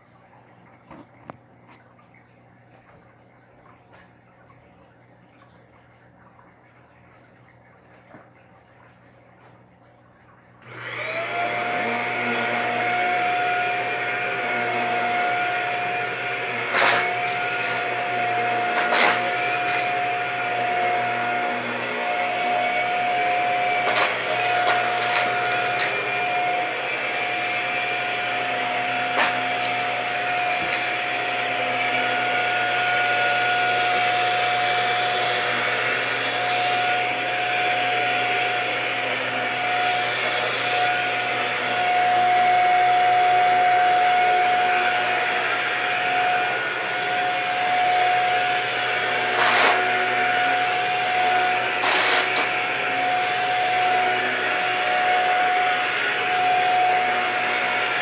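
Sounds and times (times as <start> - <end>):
vacuum cleaner running: 10.6 - 58.0.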